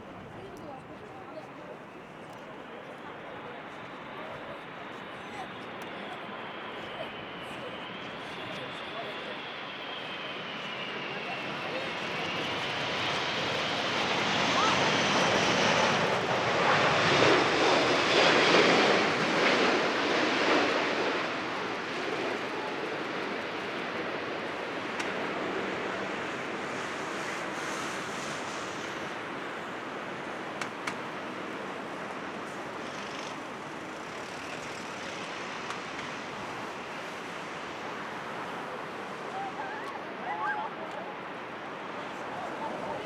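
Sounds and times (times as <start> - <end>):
jet engines roaring overhead: 0.0 - 43.0.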